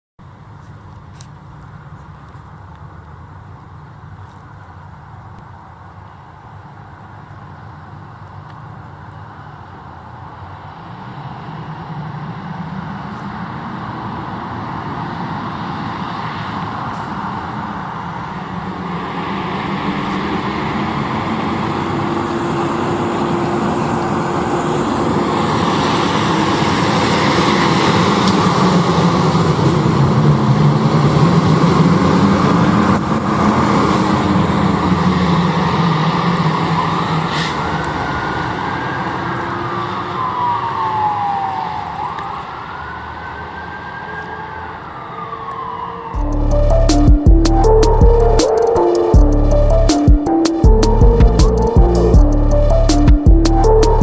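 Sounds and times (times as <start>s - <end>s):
engine and road noise: 0.0s - 54.0s
emergency vehicle sirens: 8.7s - 54.0s.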